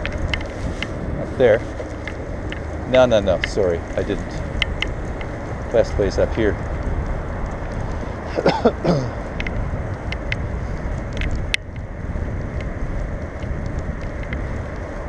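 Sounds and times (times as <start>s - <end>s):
bicycle rolling on road: 0.0s - 15.0s
bike clicks and rattles: 0.0s - 15.0s
wind rushing over microphone: 0.0s - 15.0s.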